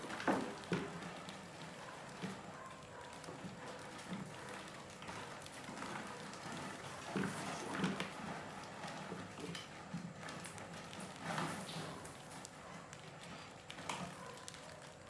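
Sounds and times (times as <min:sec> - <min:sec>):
rats claws scratching and tapping: 0:00.0 - 0:15.0.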